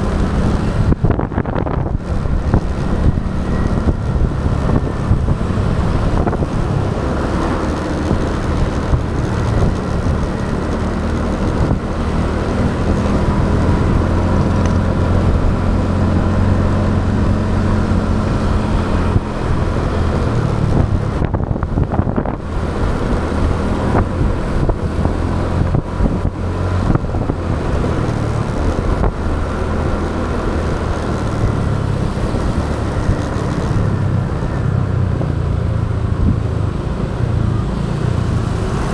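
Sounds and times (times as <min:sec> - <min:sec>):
motorcycle engine running: 0:00.0 - 0:38.9
road noise: 0:00.0 - 0:38.9
wind on microphone: 0:00.0 - 0:38.9.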